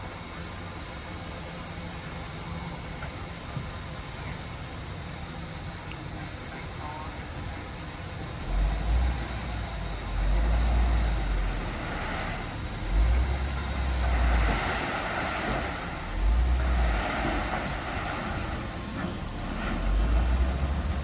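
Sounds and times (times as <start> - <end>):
diesel machinery rumbling: 0.0 - 21.0.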